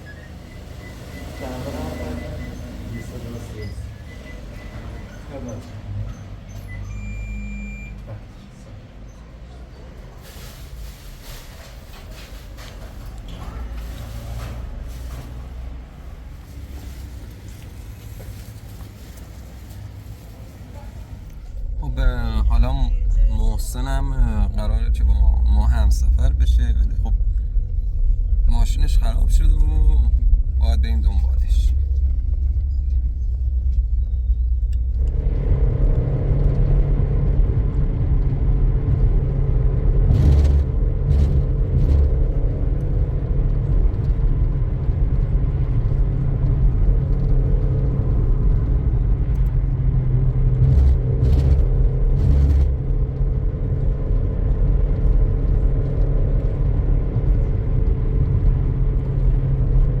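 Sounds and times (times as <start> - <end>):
car engine and road rumble: 0.0 - 60.0.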